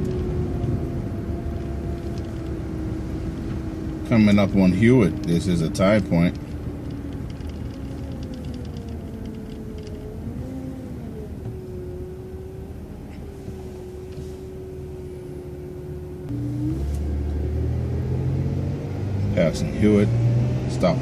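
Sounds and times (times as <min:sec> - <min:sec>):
bus engine whining: 0:00.0 - 0:21.0.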